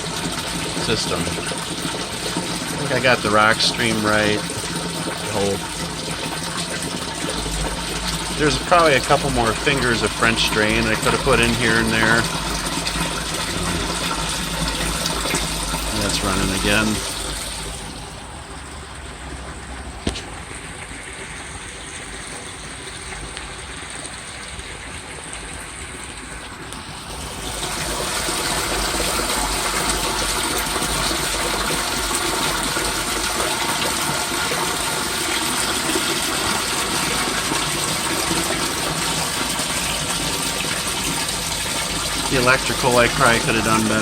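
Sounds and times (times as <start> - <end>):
water rushing from sump pump: 0.0 - 44.0.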